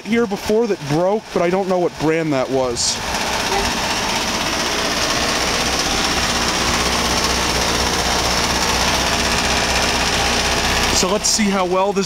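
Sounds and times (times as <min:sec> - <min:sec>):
heat pump low hum: 0:00.2 - 0:12.0.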